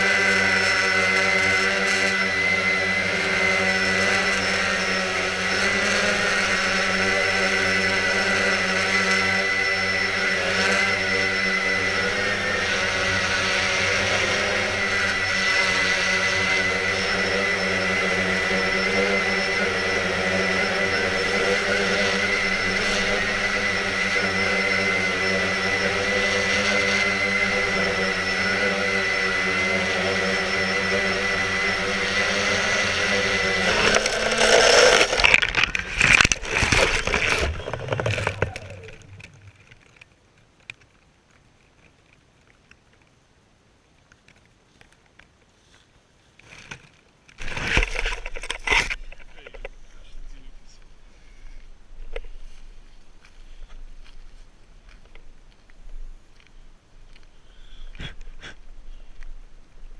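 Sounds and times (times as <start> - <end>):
quadcopter motors whining: 0.0 - 40.1, 47.4 - 59.4.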